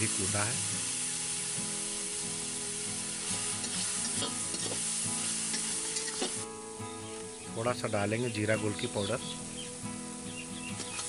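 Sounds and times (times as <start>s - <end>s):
masala sizzling in oil: 0.0s - 7.9s, 8.7s - 11.0s.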